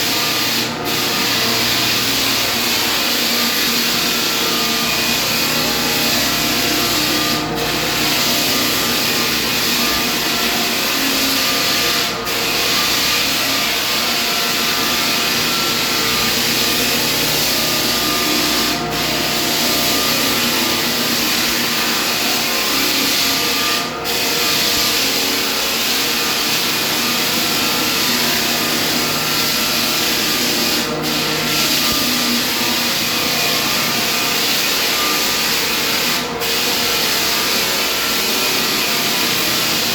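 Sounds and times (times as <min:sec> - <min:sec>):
floor sanding machine running: 0:00.0 - 0:39.9.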